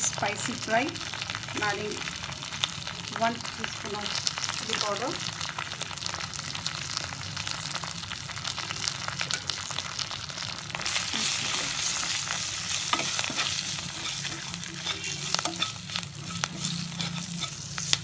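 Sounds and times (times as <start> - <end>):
spices sizzling in hot oil: 0.0 - 18.0.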